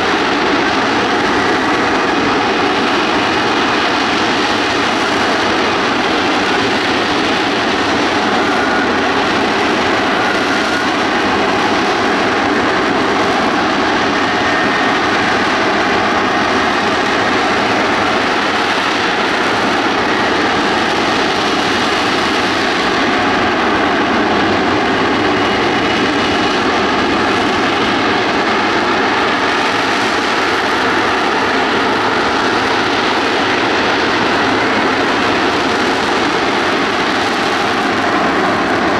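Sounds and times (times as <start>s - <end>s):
jet engine rushing noise: 0.0s - 38.9s.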